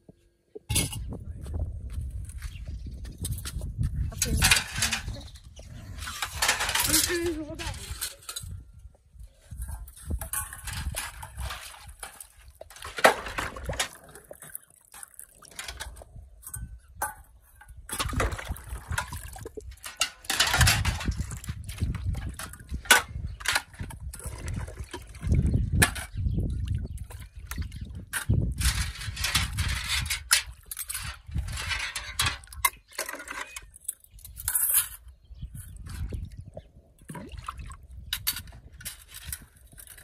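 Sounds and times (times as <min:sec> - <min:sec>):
water sloshing and splashing: 0:03.3 - 0:08.6, 0:09.4 - 0:40.0.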